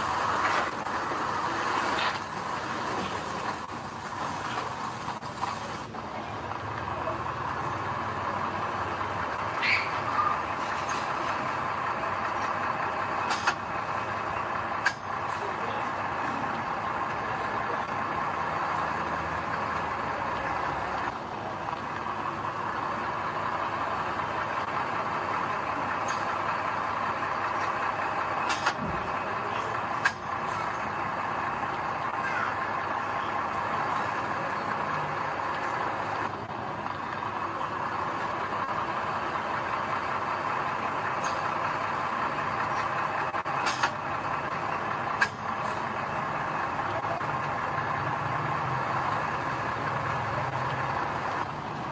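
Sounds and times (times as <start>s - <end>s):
heavy machinery diesel engines: 0.0s - 51.9s.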